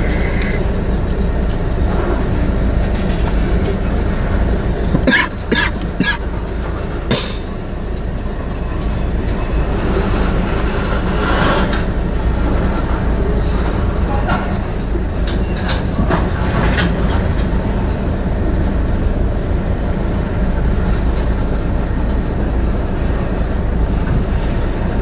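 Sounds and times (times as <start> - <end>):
steel wheels rumbling on rail: 0.0 - 25.0.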